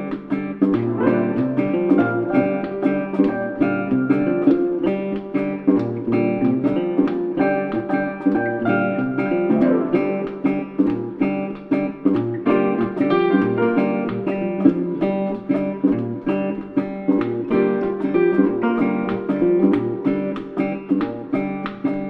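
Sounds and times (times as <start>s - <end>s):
acoustic guitar picking and strumming: 0.0s - 22.0s.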